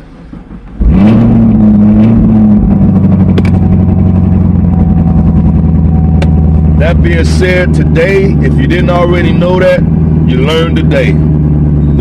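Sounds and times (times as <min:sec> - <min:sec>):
vehicle engine starting and running: 0:00.0 - 0:12.0.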